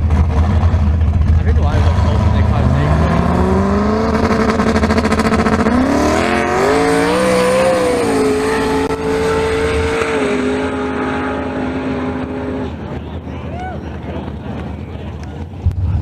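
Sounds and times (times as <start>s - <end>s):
race car engine accelerating: 0.0s - 13.2s.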